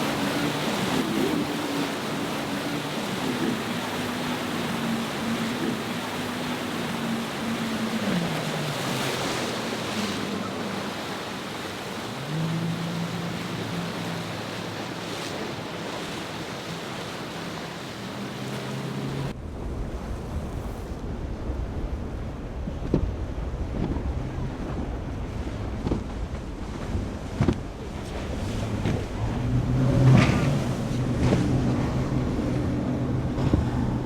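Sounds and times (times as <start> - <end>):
wind rumble on microphone: 0.0 - 10.4, 12.2 - 34.0
boat engines droning: 0.0 - 34.0
surf washing: 0.0 - 34.0.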